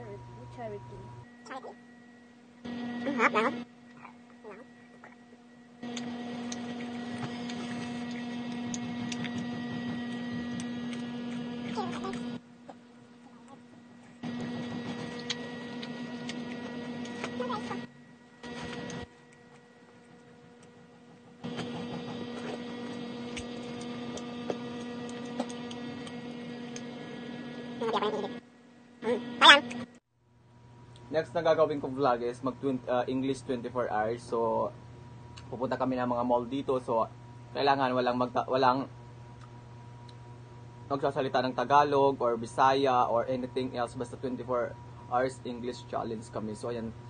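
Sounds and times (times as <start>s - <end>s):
electrical hum: 0.0s - 47.0s.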